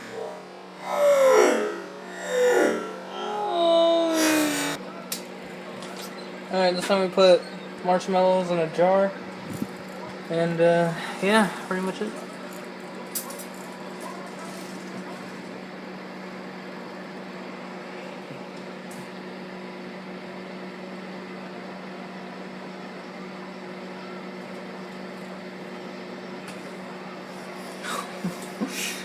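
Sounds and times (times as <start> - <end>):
fan whirring: 0.0 - 29.0
microwave oven humming: 0.0 - 29.0.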